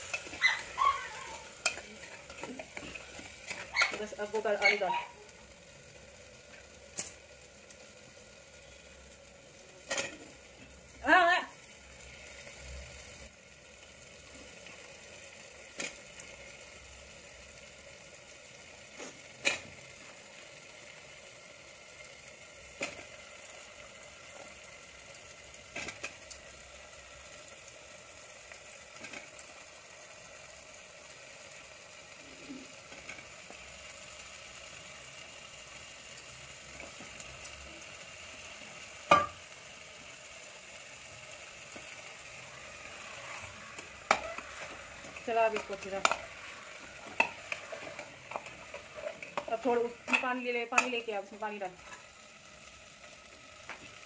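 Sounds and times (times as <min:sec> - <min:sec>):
food sizzling in a pot: 0:00.0 - 0:54.0.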